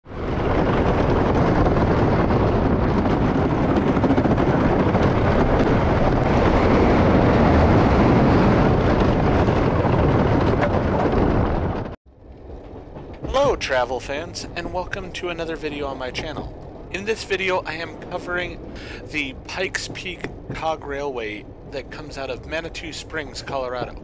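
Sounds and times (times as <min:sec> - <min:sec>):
roller coaster rumble: 0:00.0 - 0:24.0
wind on microphone: 0:00.0 - 0:24.0.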